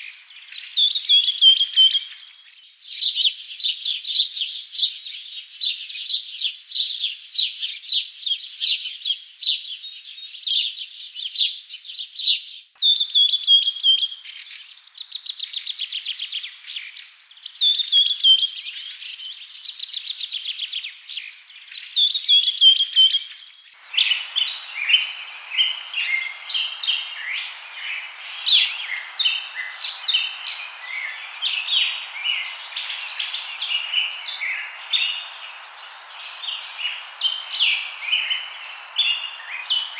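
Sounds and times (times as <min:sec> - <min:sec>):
steady background hiss: 0:00.0 - 0:19.8, 0:20.8 - 0:39.9
songbirds chirping and singing: 0:00.0 - 0:39.9.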